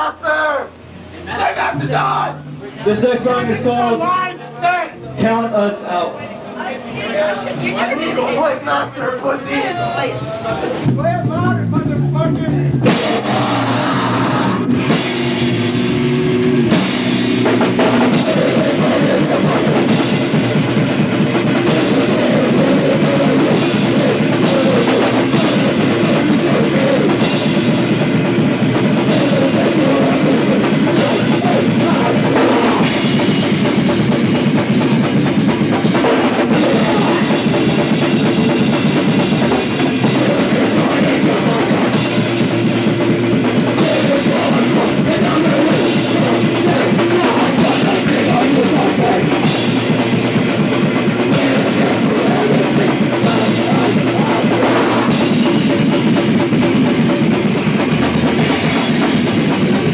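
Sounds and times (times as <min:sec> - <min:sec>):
distorted electric guitar: 0:00.0 - 0:59.9
drum kit: 0:00.0 - 0:59.9
punk band playing live: 0:00.0 - 0:59.9.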